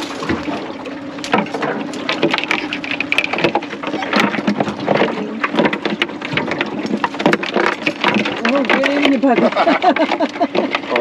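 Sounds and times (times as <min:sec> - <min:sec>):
net clattering against boat: 0:00.0 - 0:11.0.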